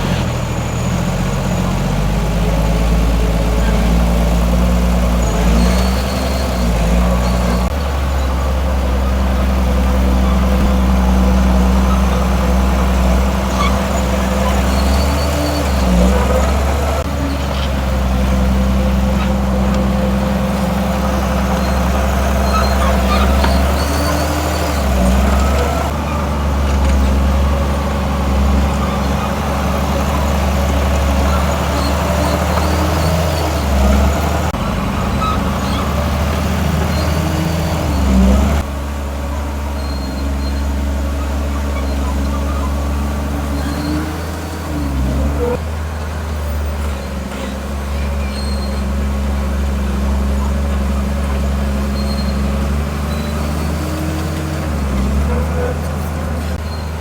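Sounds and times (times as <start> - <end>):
heavy diesel engine working: 0.0 - 57.0.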